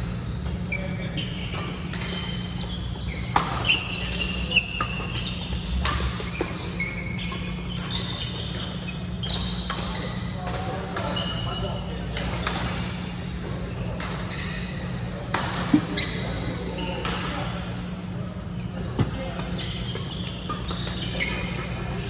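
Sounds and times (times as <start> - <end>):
shoes squeaking on court: 0.1 - 22.0.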